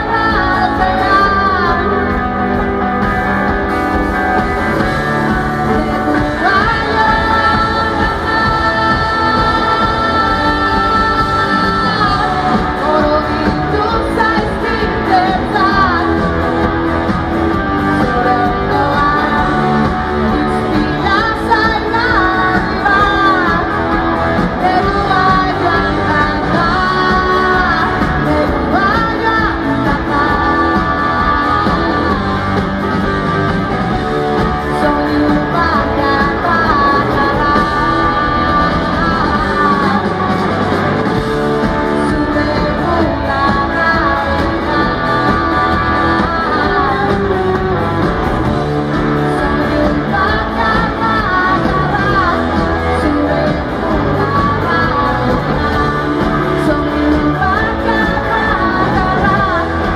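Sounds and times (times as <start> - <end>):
rock band playing live: 0.0 - 59.9
woman singing: 0.0 - 59.9.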